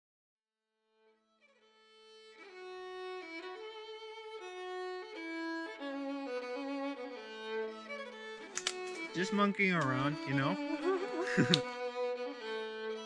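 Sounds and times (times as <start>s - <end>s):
solo violin melody: 0.9s - 13.0s.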